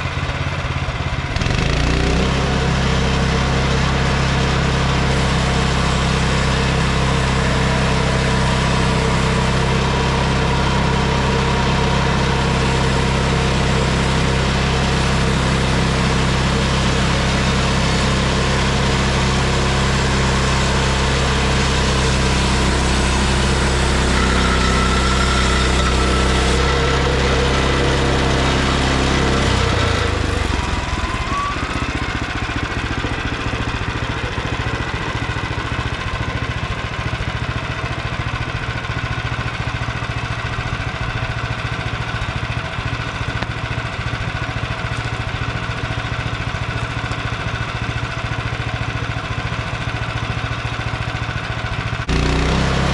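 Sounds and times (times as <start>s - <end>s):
small gasoline engine running: 0.0s - 52.9s.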